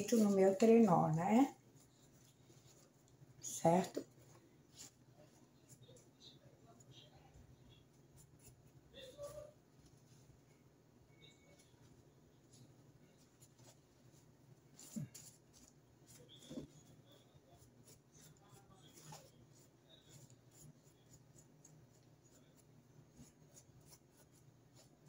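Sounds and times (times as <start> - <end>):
brush scratching and rustling paper: 0.0 - 7.1, 7.7 - 10.5, 11.2 - 25.0.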